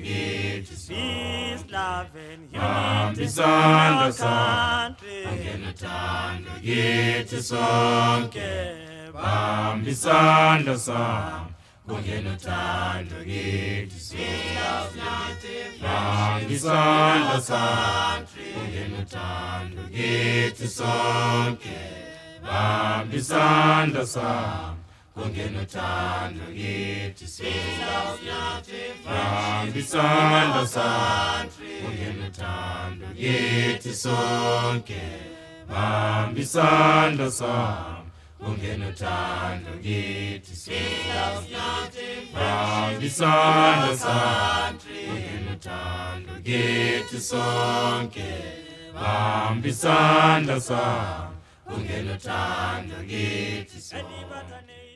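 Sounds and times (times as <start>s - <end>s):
a cappella choir singing: 0.0s - 54.9s.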